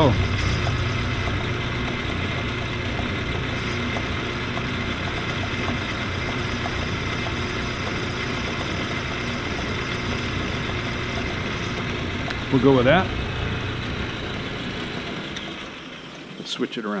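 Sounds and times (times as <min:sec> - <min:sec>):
metal lathe humming: 0:00.0 - 0:17.0.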